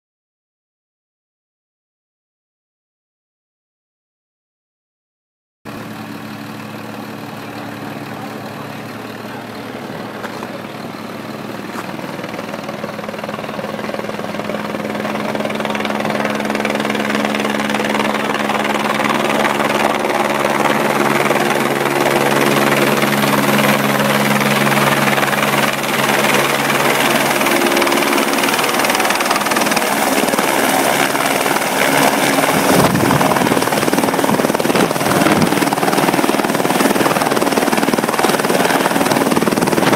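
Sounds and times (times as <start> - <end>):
helicopter rotor and turbine: 5.7 - 39.9.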